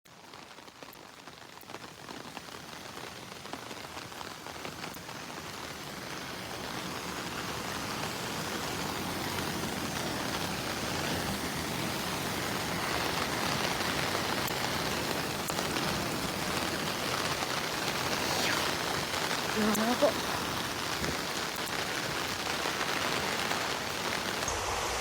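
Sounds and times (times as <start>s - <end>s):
heavy rain pouring: 0.1s - 25.0s.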